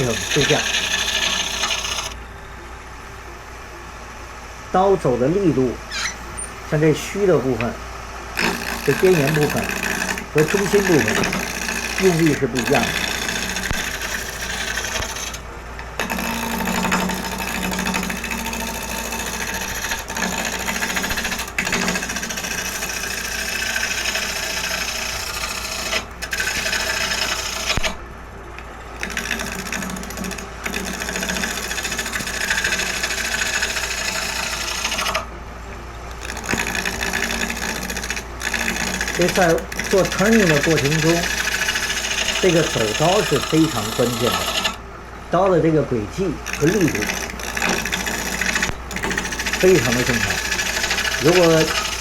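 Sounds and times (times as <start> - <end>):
lathe humming: 0.0 - 52.0.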